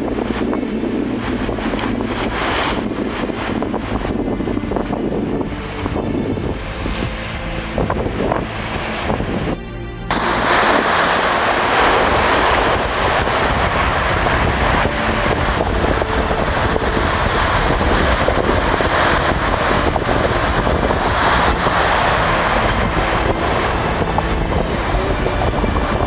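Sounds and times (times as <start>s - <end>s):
sea surf breaking: 0.0s - 26.0s
wind buffeting microphone: 0.0s - 26.0s.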